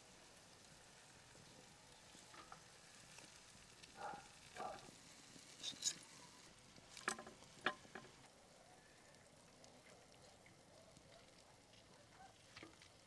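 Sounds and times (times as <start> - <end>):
low steady hiss: 0.0 - 13.0.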